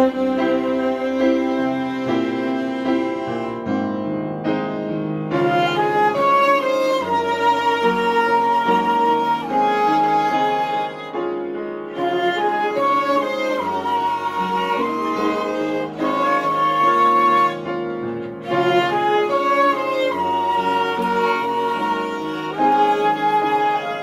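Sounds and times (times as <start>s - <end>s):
cello: 0.0s - 24.0s
piano chords: 0.0s - 24.0s
violin slow melody: 0.0s - 24.0s.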